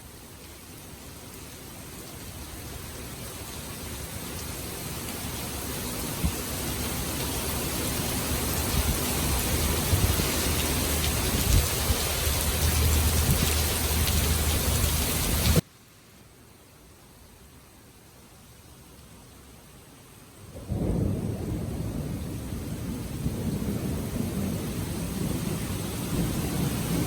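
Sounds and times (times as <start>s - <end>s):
heavy rain hissing: 0.0s - 16.0s, 19.3s - 27.0s.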